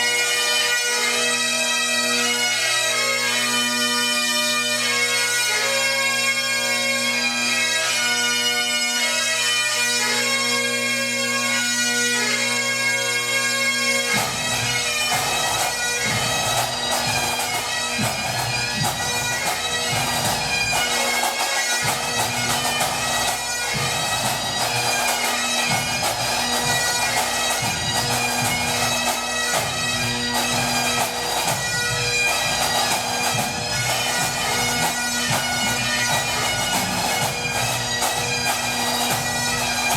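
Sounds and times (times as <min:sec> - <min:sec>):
bagpipes playing a tune: 0:00.0 - 0:39.9.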